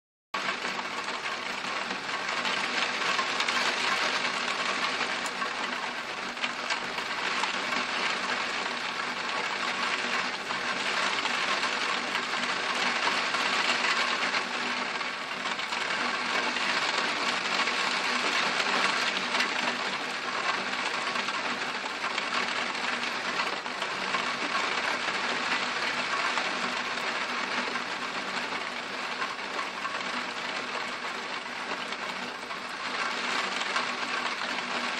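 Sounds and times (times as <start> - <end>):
torrential rain: 0.4 - 34.9.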